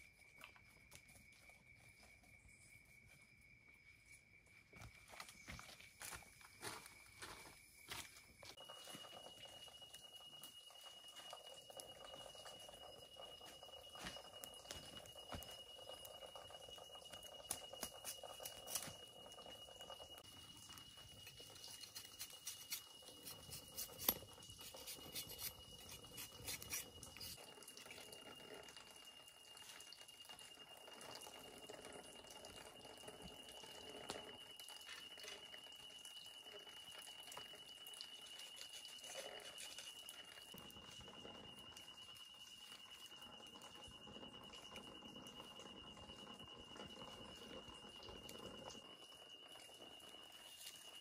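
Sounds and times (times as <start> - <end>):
night insects droning: 0.0 - 51.0.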